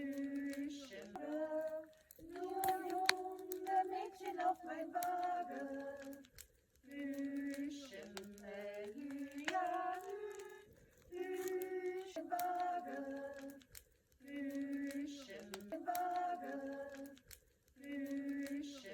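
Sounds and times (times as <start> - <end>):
sharp clicks: 0.0 - 4.4, 5.0 - 18.9
woman singing: 0.0 - 17.2, 17.8 - 18.9.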